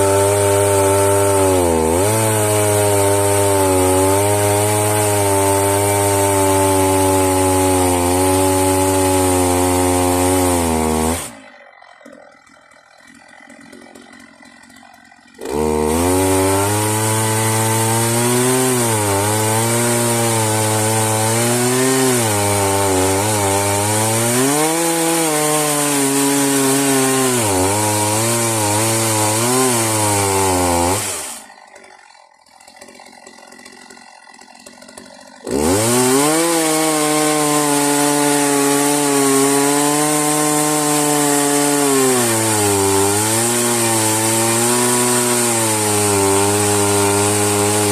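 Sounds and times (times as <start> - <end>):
chainsaw cutting log: 0.0 - 47.9.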